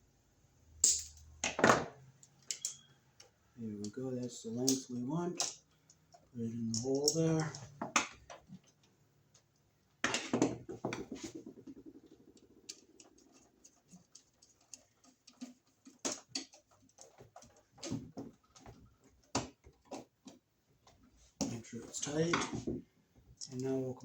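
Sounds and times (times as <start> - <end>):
clicks and scrapes of wiring work: 2.2 - 22.6, 23.2 - 24.0.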